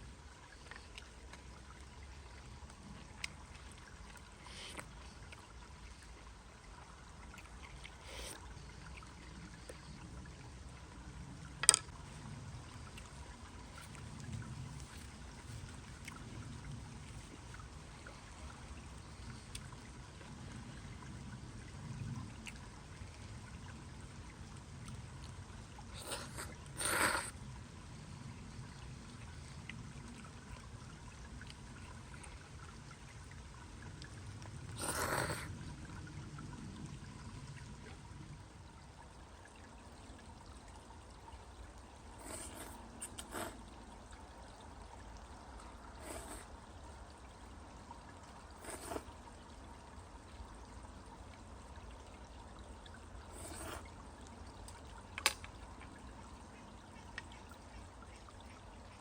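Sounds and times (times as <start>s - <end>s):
trickle of running water: 0.0s - 59.0s.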